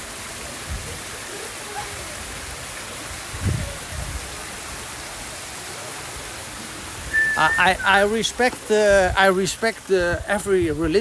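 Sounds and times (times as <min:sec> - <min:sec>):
water pouring into a pool: 0:00.0 - 0:11.0.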